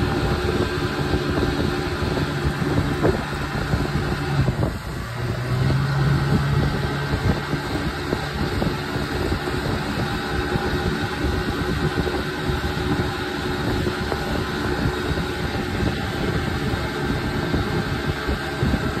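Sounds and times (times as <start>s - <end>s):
boat motor running: 0.0s - 19.0s
wind buffeting microphone: 0.0s - 19.0s.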